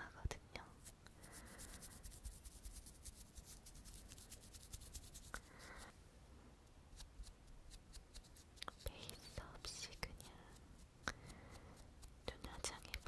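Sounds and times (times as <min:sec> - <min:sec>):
soft brush swish: 0:00.7 - 0:05.9, 0:06.9 - 0:13.0
makeup brush crackling strokes: 0:00.7 - 0:06.0, 0:06.6 - 0:13.0.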